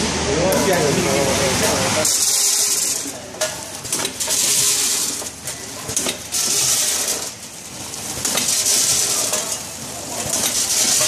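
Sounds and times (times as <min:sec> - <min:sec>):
packing machine hissing: 0:00.6 - 0:11.0.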